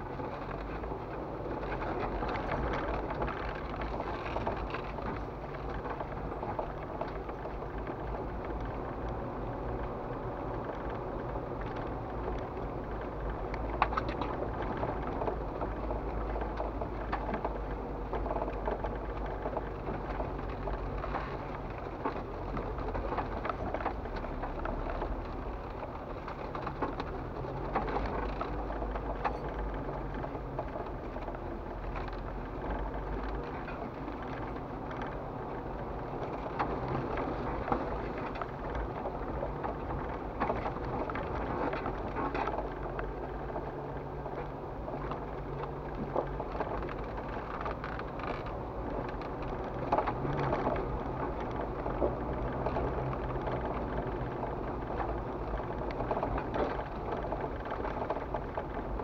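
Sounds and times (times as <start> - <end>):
off-road vehicle engine rumble: 0.0 - 59.0.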